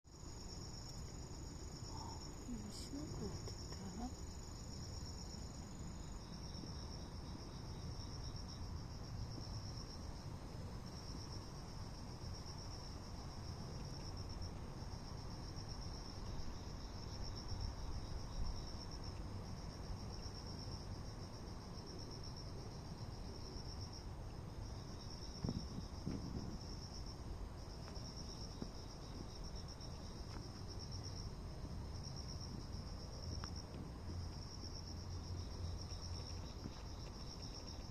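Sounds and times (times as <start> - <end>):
crickets chirping: 0.1 - 37.9.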